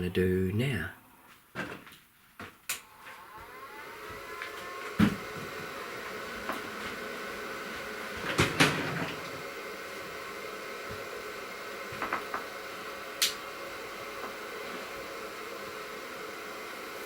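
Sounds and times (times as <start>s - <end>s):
electric motor whining: 2.8s - 17.0s.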